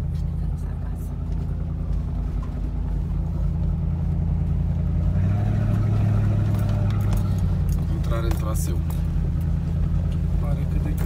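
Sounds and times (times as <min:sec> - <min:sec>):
car engine drone from inside: 0:00.0 - 0:11.0.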